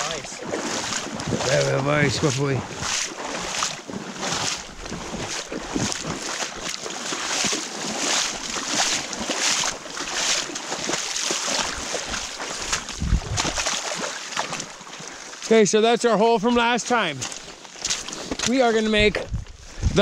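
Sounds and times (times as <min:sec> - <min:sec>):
footsteps wading through water: 0:00.0 - 0:20.0
water sloshing and splashing: 0:00.0 - 0:20.0.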